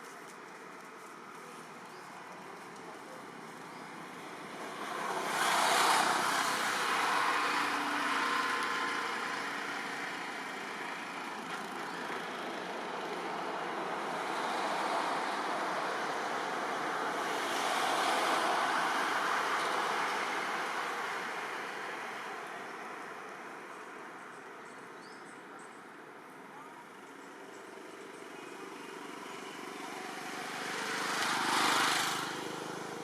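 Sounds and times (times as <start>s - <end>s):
road traffic rushing by: 1.2s - 25.0s, 25.9s - 33.0s.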